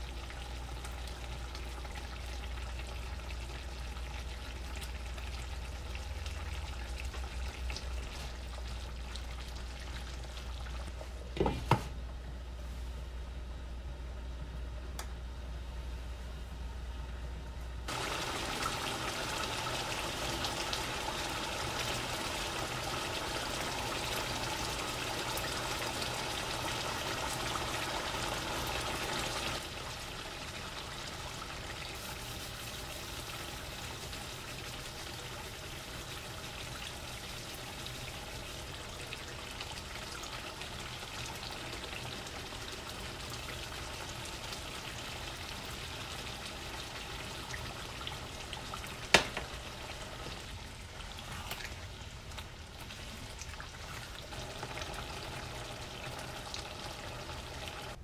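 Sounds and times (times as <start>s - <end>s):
food sizzling and bubbling in pan: 0.0s - 11.7s, 17.9s - 58.0s.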